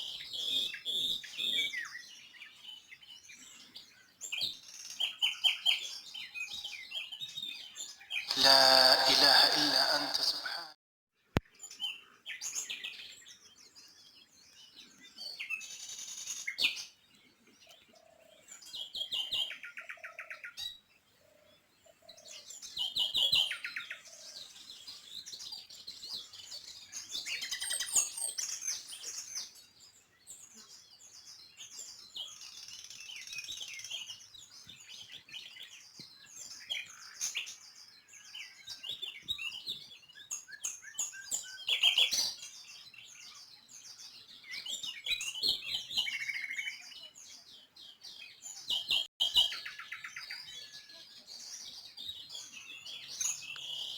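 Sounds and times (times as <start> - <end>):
songbirds chirping and singing: 0.0 - 10.5, 11.6 - 53.9.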